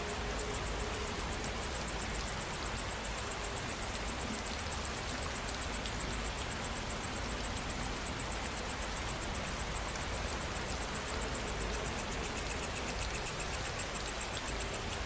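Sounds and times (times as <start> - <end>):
insect calling in rapid pulses: 0.0 - 15.0
steady rain falling: 0.0 - 15.0.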